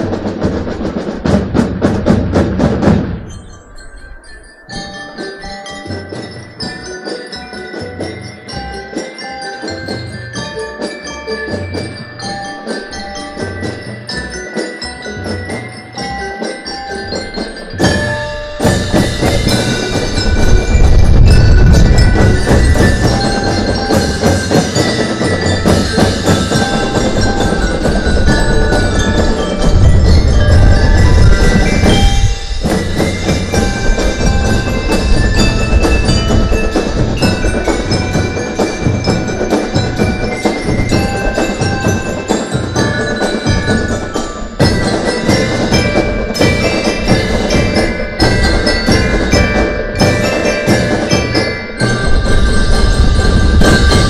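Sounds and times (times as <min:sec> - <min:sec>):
drum line playing loudly: 0:00.0 - 0:54.0
bell lyres ringing melody: 0:01.8 - 0:54.0.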